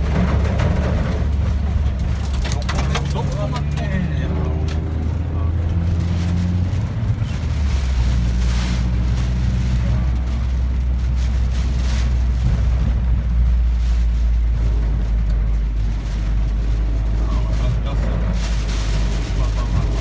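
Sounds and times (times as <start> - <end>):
faint engine hum: 0.0 - 20.0
wind buffeting a car: 0.0 - 20.0.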